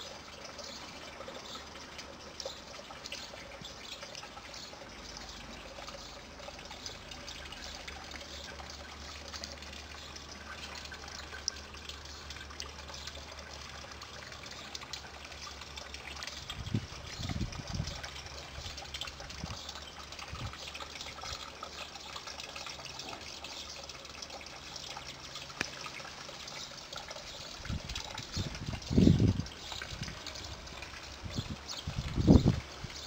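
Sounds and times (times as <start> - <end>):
fountain water trickling: 0.0 - 33.0.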